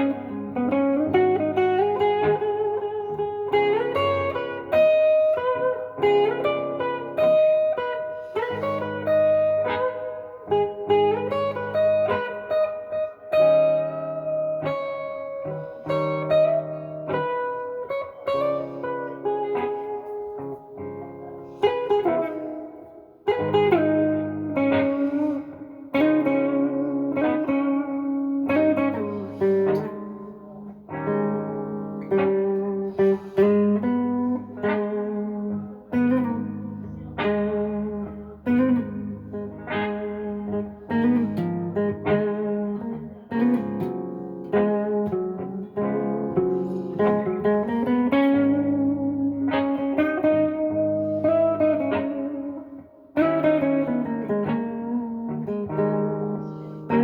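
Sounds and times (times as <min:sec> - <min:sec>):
electric guitar blues lead: 0:00.0 - 0:57.0.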